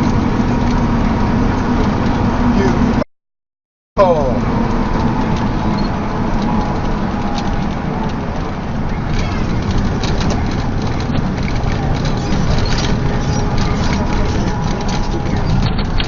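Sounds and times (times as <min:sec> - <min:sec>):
vehicle engine and road noise: 0:00.0 - 0:03.1, 0:04.0 - 0:16.0.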